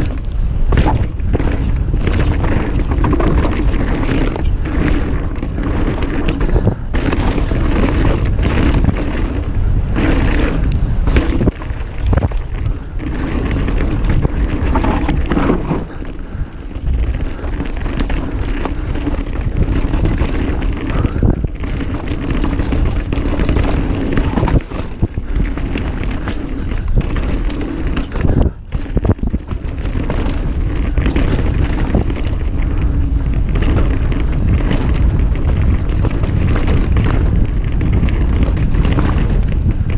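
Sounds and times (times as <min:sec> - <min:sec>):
bike rattling and knocking: 0:00.0 - 0:39.9
tyres rolling over dirt: 0:00.0 - 0:39.9
wind buffeting microphone: 0:00.0 - 0:39.9.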